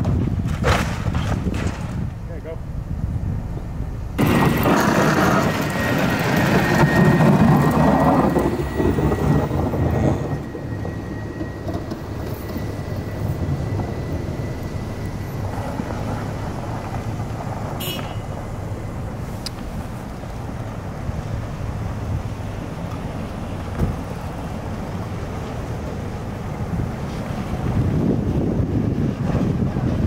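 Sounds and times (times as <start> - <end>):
vehicle driving on snow: 0.0 - 30.0
faint steady whine: 2.1 - 28.9.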